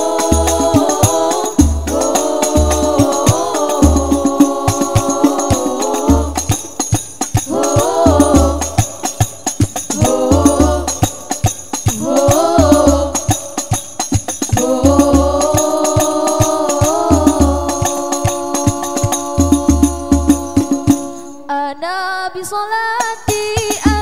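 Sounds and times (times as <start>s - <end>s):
hand-struck frame drums: 0.0s - 21.3s
women singing: 0.0s - 24.0s.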